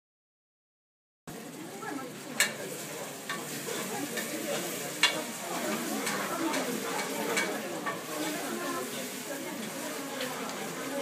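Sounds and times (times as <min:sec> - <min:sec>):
food sizzling in a pot: 0:01.3 - 0:11.0.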